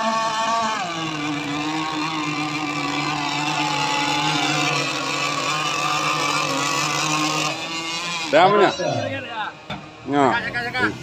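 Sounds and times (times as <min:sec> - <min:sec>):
powerboat engine buzzing: 0:00.0 - 0:11.0.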